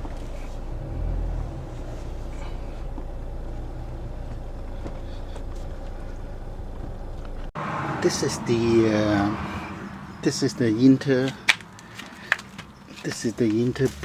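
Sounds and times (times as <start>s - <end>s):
car interior road rumble: 0.0s - 14.0s.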